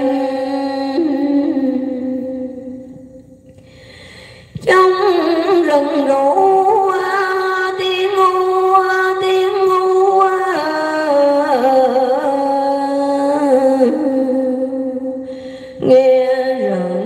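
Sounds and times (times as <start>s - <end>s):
woman chant-singing: 0.0s - 3.2s, 4.5s - 17.0s.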